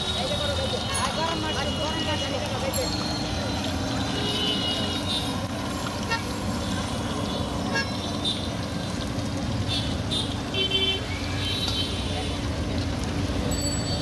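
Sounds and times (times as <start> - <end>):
street traffic engines: 0.0 - 14.0.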